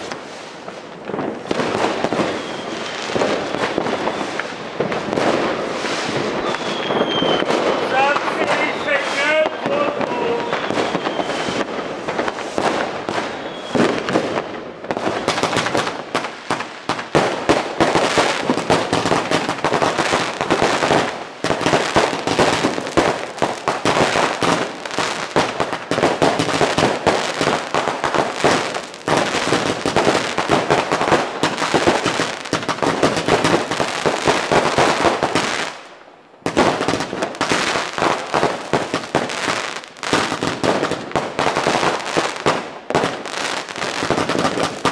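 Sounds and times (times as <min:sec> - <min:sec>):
fireworks and firecrackers banging: 0:00.0 - 0:44.9.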